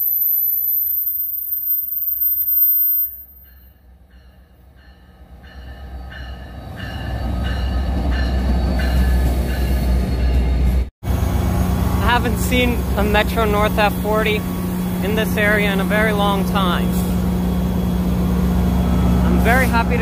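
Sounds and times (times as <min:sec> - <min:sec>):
train rumbling past: 0:03.4 - 0:20.0.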